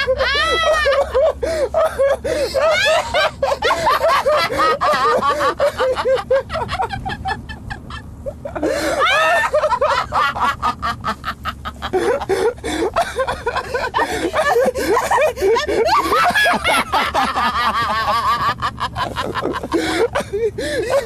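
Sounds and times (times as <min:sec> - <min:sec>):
man and woman laughing: 0:00.0 - 0:21.0.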